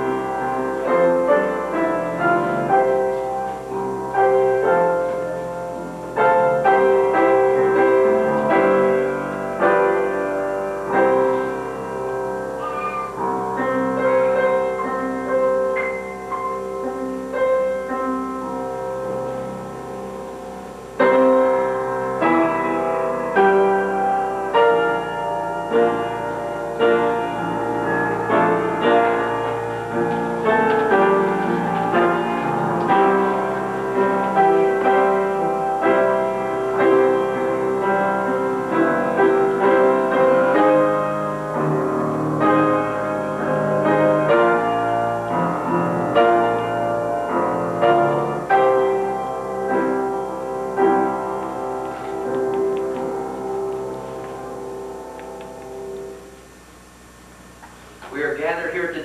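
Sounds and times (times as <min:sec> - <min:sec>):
slow piano piece: 0:00.0 - 0:59.0.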